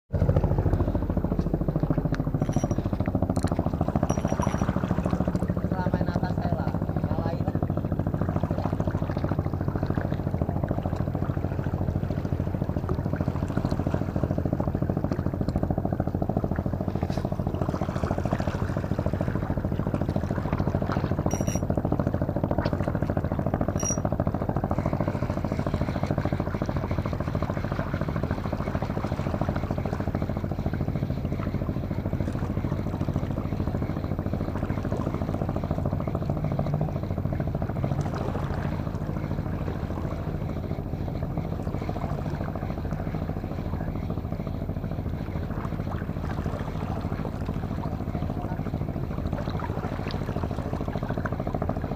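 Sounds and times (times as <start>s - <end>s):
boat engine droning: 0.1s - 51.9s.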